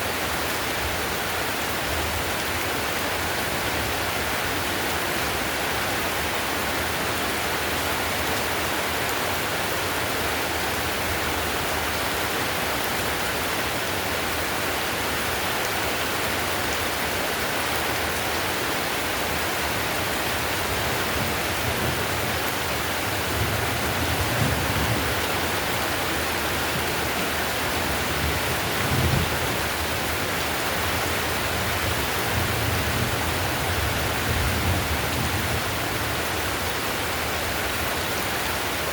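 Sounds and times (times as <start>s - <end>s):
heavy rain on roof tiles: 0.0s - 38.9s.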